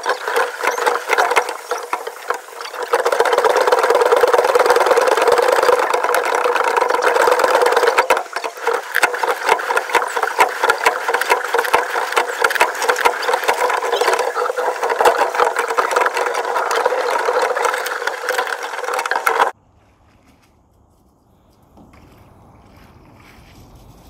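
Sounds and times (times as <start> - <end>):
camera rattling and clicking: 0.0 - 19.5.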